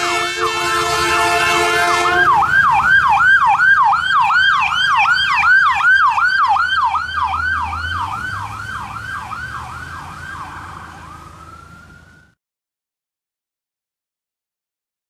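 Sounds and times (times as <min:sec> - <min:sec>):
ambulance siren yelping: 0:00.0 - 0:12.4
truck engine: 0:00.0 - 0:12.4.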